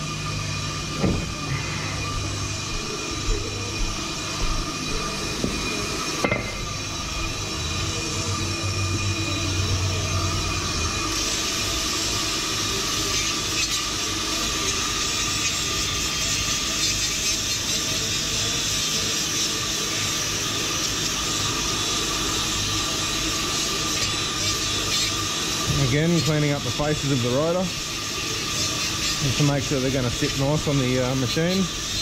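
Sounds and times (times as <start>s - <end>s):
brake lathe hissing and whining: 0.0s - 32.0s.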